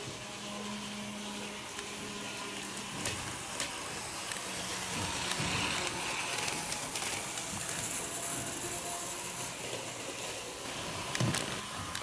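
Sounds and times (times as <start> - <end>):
model train rolling hiss: 0.0 - 12.0
wheels clicking on rail joints: 1.4 - 12.0.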